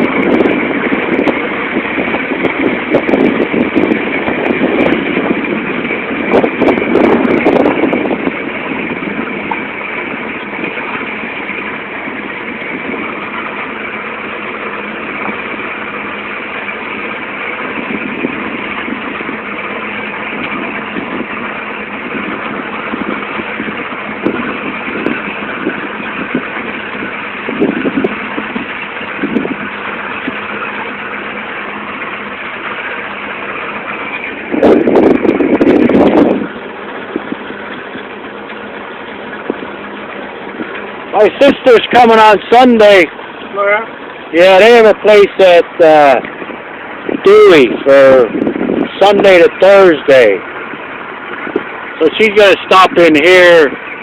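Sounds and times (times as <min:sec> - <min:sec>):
boat motor running: 0:00.0 - 0:54.0
rushing wind: 0:00.0 - 0:54.0
water rushing: 0:00.0 - 0:54.0.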